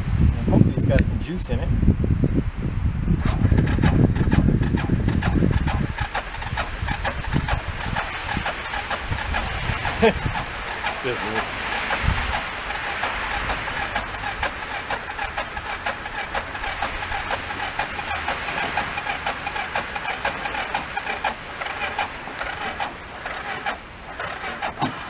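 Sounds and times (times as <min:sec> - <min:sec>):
electric starter cranking engine: 0:03.2 - 0:25.0.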